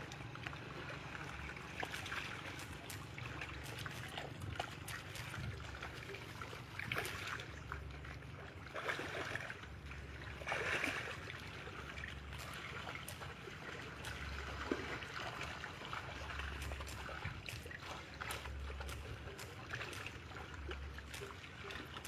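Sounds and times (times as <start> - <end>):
pond water splashing: 0.0 - 22.0.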